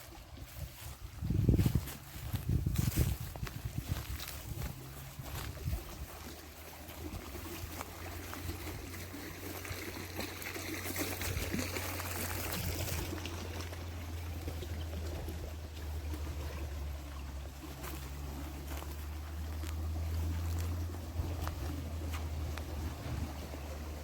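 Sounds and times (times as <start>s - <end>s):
low steady rumble: 0.0s - 24.0s
river water flowing: 0.0s - 24.0s.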